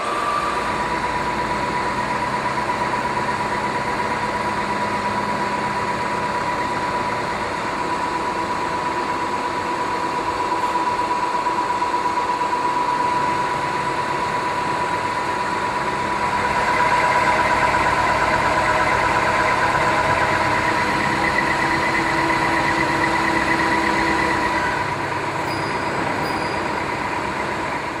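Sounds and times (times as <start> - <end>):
milling machine whine: 0.0 - 28.0.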